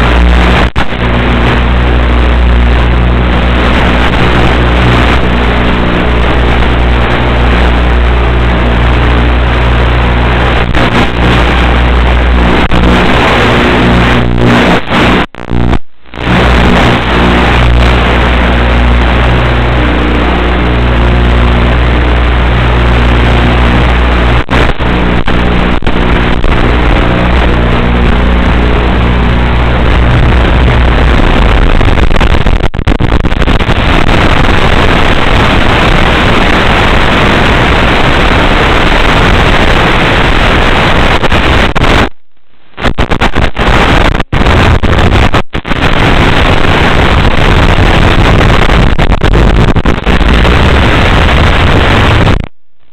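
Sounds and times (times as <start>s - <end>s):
loud steady video link noise: 0.0s - 52.9s
low hum: 0.0s - 52.9s.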